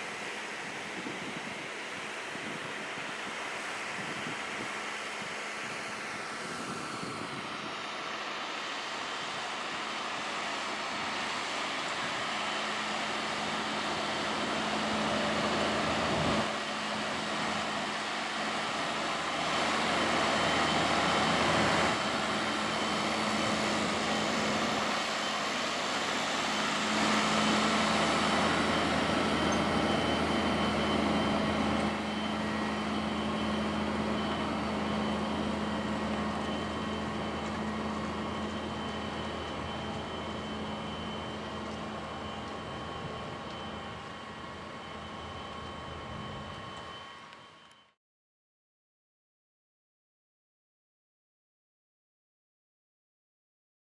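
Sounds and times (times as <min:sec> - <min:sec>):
tractor diesel engine running: 0:00.0 - 0:47.8.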